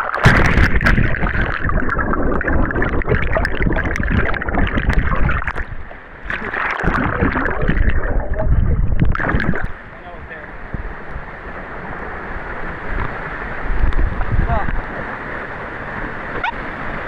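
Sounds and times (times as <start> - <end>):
stream water rushing and splashing: 0.0 - 17.0.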